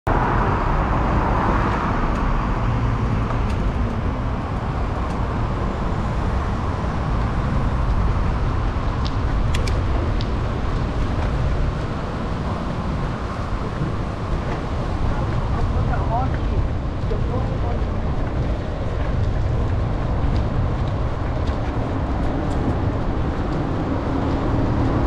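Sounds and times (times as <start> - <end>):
road and traffic noise: 0.0 - 25.0.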